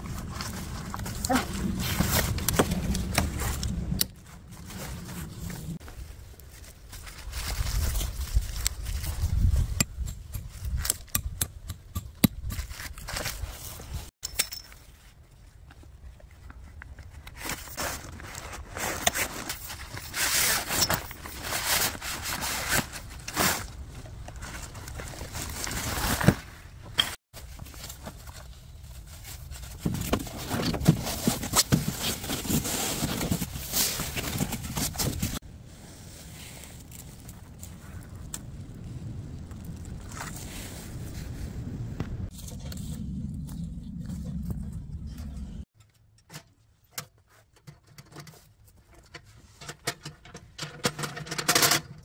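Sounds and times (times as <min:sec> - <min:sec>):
tent fabric and tarp rustling: 0:00.0 - 0:10.9, 0:12.5 - 0:14.2, 0:14.8 - 0:45.8.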